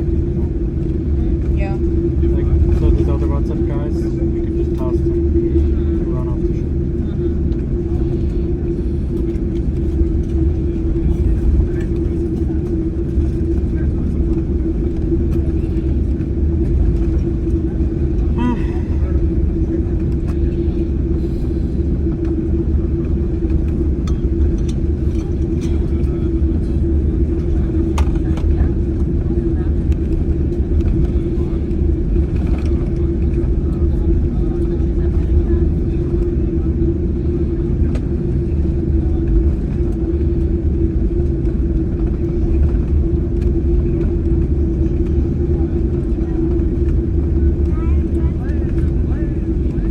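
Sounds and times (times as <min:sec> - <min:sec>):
airplane cabin engine rumble: 0:00.0 - 0:49.9
steady hum: 0:00.0 - 0:49.9.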